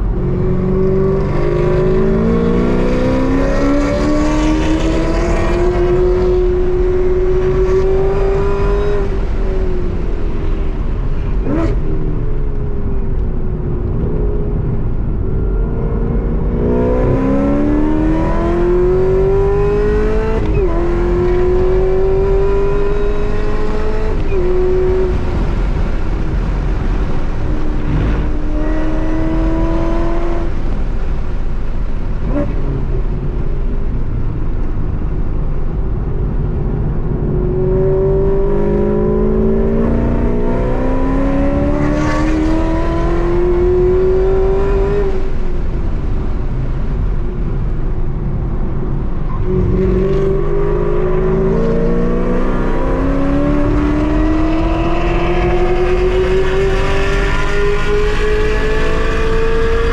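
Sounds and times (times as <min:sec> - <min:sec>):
car engine at full throttle: 0:00.0 - 0:59.9.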